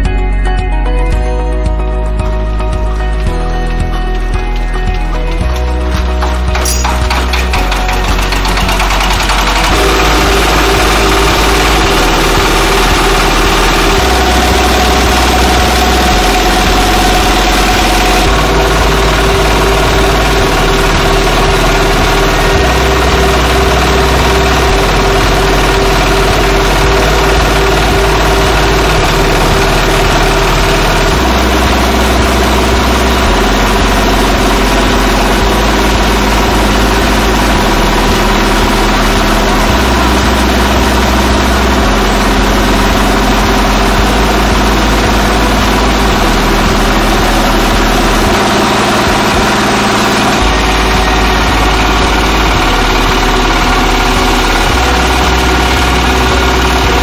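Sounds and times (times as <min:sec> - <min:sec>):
diesel engine running: 0:00.0 - 0:57.0
rice mill hulling grain: 0:04.5 - 0:57.0.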